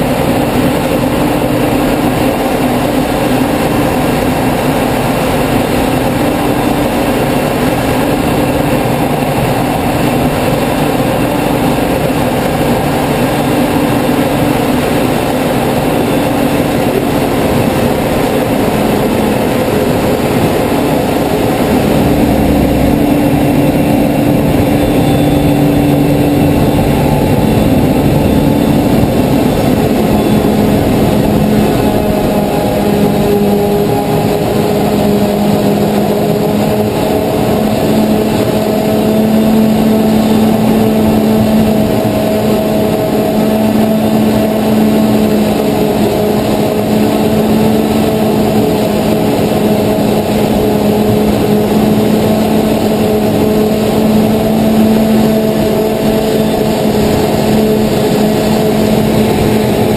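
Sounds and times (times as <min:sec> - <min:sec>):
harvester machine hum: 0:00.0 - 0:59.9.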